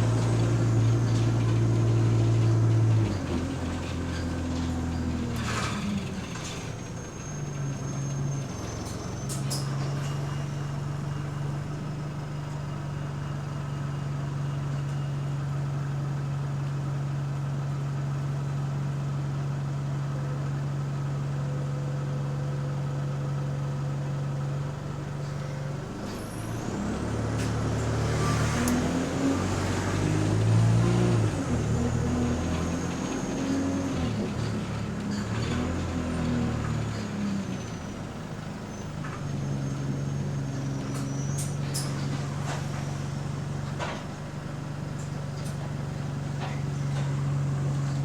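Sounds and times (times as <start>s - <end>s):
bus engine: 0.0s - 48.0s.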